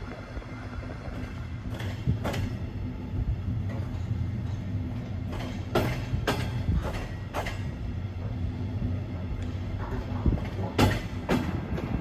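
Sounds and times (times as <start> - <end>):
train coach rumbling: 0.0 - 12.0
wheels clacking over rail joints: 0.9 - 12.0.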